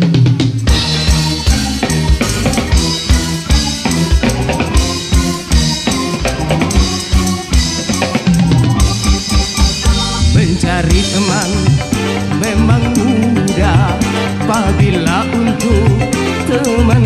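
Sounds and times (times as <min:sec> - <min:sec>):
drums and percussion on steady beat: 0:00.0 - 0:17.0
wavering melodic line: 0:00.7 - 0:17.0.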